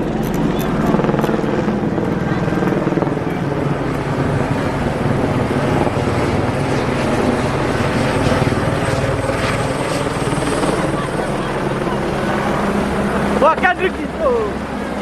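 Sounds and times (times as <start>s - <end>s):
helicopter rotor chop: 0.0s - 15.0s.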